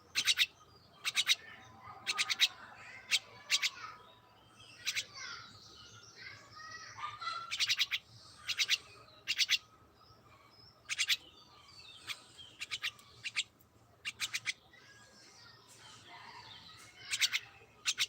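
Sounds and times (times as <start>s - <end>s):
pet birds chirping: 0.0s - 18.0s.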